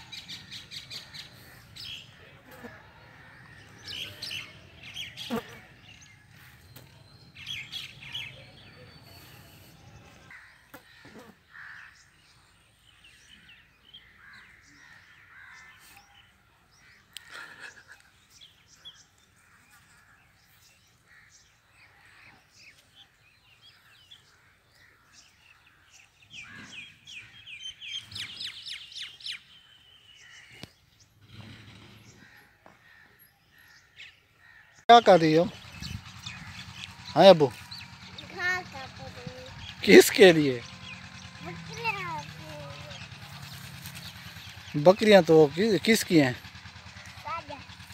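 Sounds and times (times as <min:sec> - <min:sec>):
birds chirping and calling: 0:00.0 - 0:47.9.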